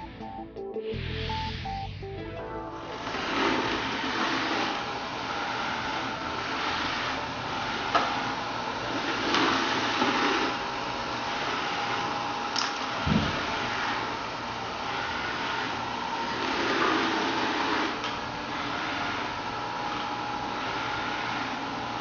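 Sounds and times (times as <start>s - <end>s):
robot vacuum whirring: 2.8s - 22.0s.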